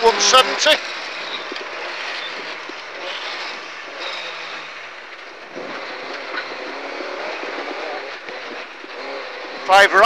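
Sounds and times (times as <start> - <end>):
gravel road noise: 0.0 - 10.0
rally car engine revving: 0.0 - 10.0.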